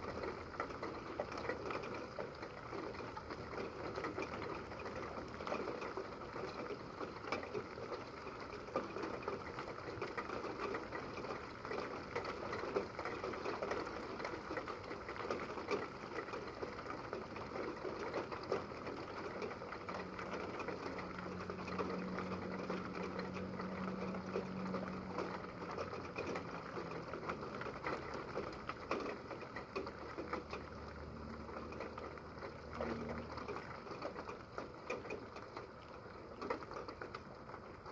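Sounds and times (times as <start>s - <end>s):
rain pattering: 0.0s - 37.9s.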